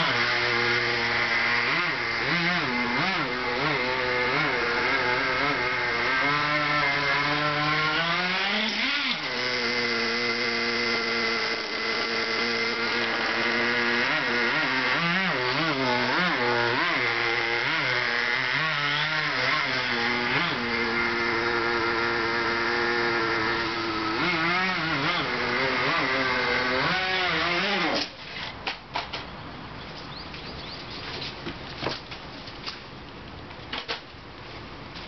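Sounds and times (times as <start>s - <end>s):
rc buggy engine revving: 0.0s - 28.4s.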